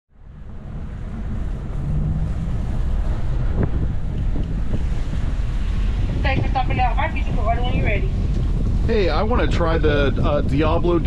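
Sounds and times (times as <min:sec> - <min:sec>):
car engine rumble in cabin: 0:00.2 - 0:11.0
wind buffeting microphone: 0:00.2 - 0:11.0.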